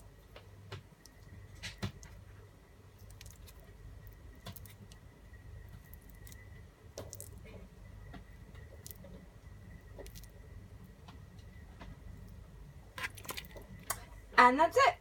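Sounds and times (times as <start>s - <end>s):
soft squishing of wet food: 0.0s - 14.3s.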